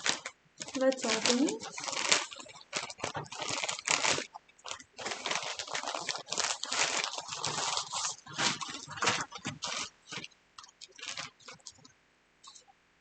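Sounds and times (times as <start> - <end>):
packaging crinkling: 0.0 - 11.9.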